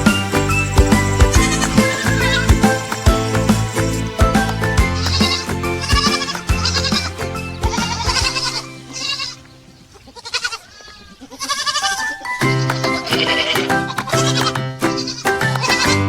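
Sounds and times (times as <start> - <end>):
gentle background music: 0.0 - 10.4, 11.5 - 16.0
baby goats bleating: 1.3 - 16.0.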